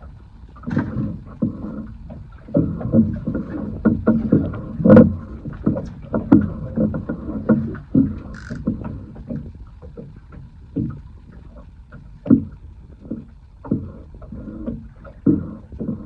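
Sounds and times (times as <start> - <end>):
waves slapping against boat hull: 0.0 - 16.0.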